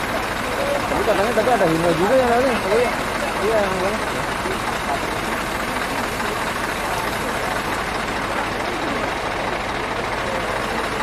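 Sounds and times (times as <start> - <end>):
diesel truck engine idling: 0.0 - 11.0
faint voices: 0.0 - 11.0.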